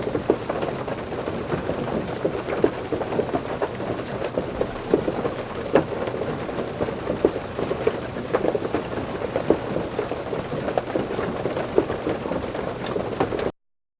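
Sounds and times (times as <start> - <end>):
heavy rain drumming on a roof: 0.0 - 13.6.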